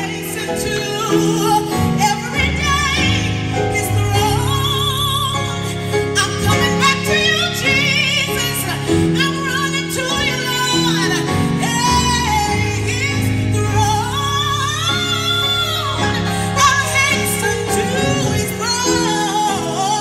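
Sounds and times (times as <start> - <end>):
sustained keyboard chords: 0.0 - 20.0
woman singing gospel: 0.0 - 20.0.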